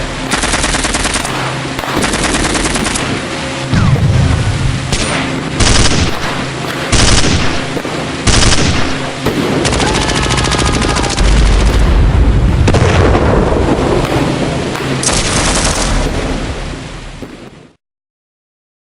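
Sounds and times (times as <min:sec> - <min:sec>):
heavy low rumble: 0:00.0 - 0:17.8
machine-gun fire: 0:00.2 - 0:17.8.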